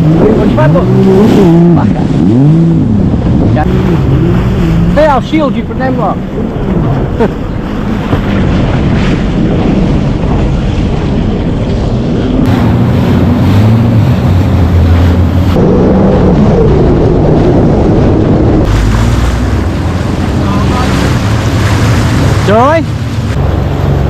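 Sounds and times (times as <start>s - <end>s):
jet ski engine running: 0.0s - 24.0s
water rushing: 0.0s - 24.0s
wind buffeting microphone: 0.0s - 24.0s.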